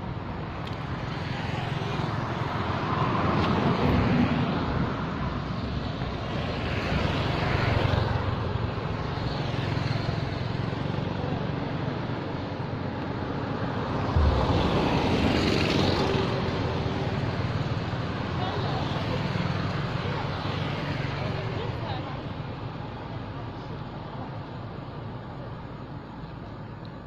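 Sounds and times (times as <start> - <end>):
steady low traffic rumble: 0.0 - 27.0
vehicles passing by: 0.0 - 27.0.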